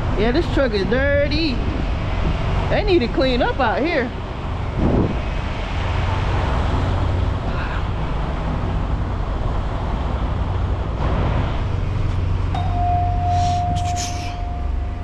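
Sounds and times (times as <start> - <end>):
diesel truck engines idling: 0.0 - 15.0
traffic noise: 0.0 - 15.0.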